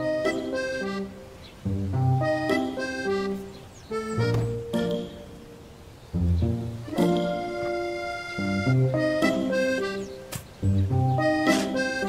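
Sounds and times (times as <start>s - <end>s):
light melody over bass line: 0.0s - 12.0s.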